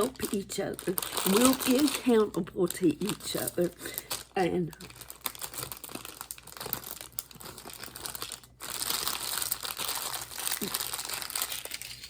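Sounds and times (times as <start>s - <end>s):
crinkling material handled: 0.0s - 12.0s.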